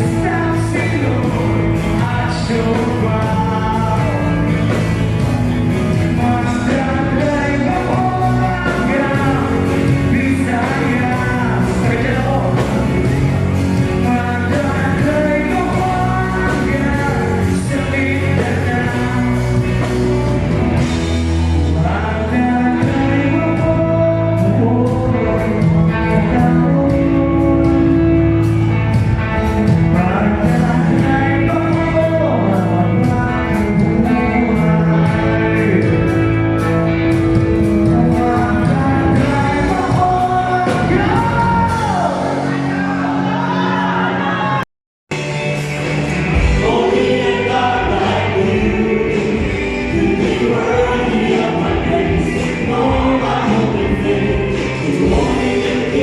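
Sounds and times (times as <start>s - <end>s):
person singing: 0.0s - 5.0s, 5.9s - 20.1s, 21.6s - 28.4s, 29.6s - 44.7s, 46.3s - 56.0s
guitar: 0.0s - 56.0s.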